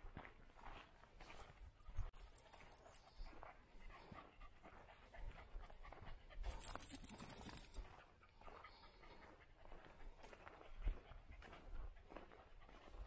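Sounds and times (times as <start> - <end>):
footsteps: 0.0 - 13.0
quick panting breaths: 1.2 - 13.0.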